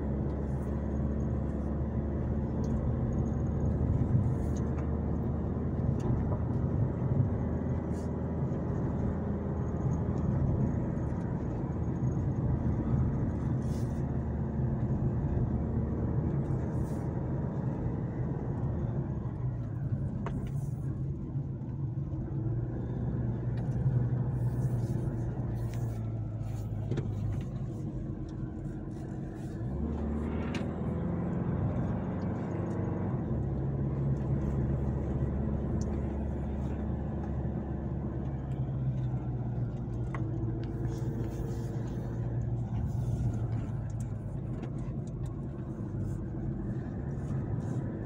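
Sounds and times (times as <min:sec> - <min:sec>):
car engine hum: 0:00.0 - 0:48.0
road noise: 0:00.0 - 0:48.0.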